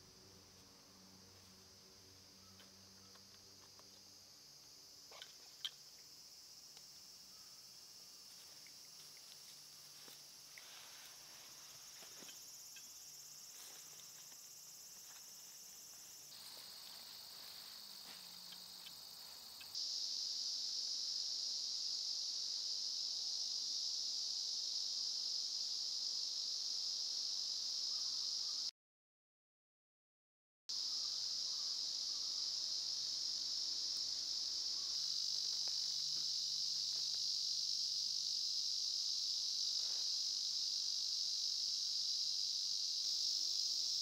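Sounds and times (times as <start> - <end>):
insect chorus drone: 0.0 - 28.7, 30.7 - 44.0.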